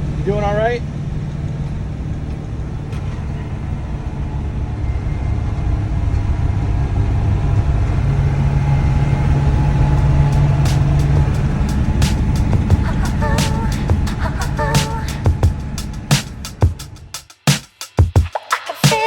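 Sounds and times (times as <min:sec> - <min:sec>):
vehicle engine droning: 0:00.0 - 0:17.4.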